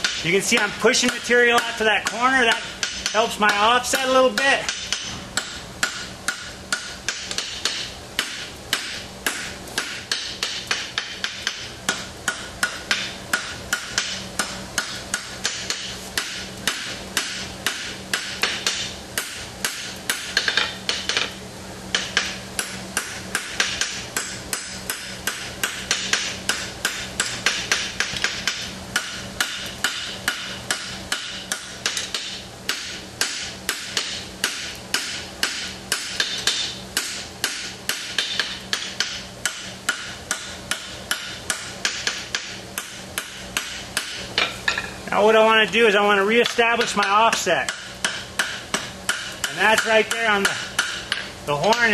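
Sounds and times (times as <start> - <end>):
hammer striking steel on anvil: 0.0 - 21.3, 21.9 - 45.0, 46.4 - 51.9.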